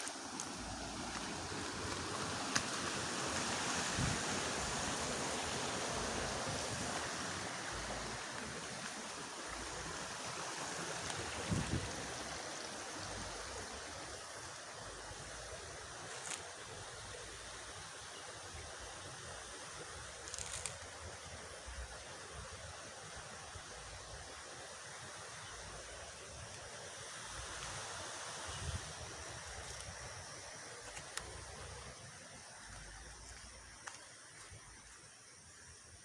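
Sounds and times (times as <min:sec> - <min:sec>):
fast-flowing water rushing: 0:00.0 - 0:20.1, 0:21.2 - 0:35.0.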